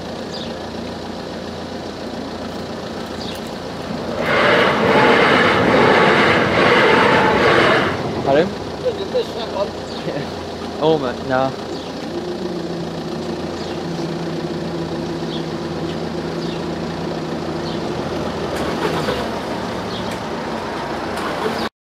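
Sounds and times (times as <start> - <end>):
barrier motor hum: 0.0 - 21.3
traffic moving off: 0.0 - 21.7.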